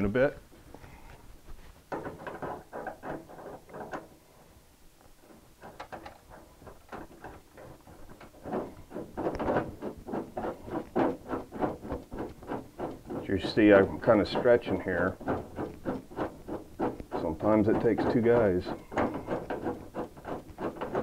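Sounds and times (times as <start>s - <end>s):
metal clicks and scrapes: 1.9s - 4.4s, 5.0s - 21.0s.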